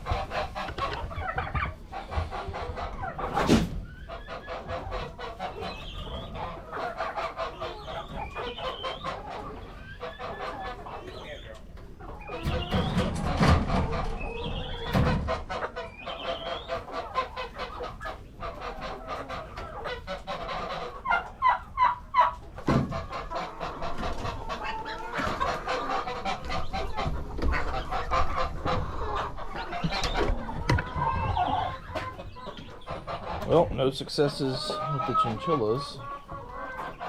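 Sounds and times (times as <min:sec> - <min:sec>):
poultry clucking: 0:00.0 - 0:37.0.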